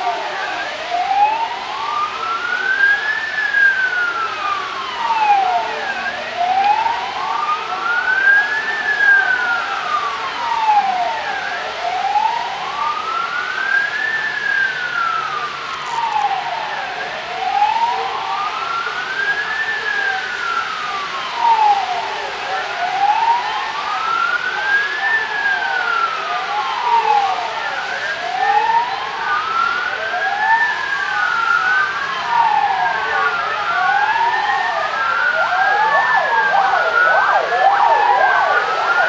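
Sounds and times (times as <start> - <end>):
siren wailing: 0.0 - 39.0.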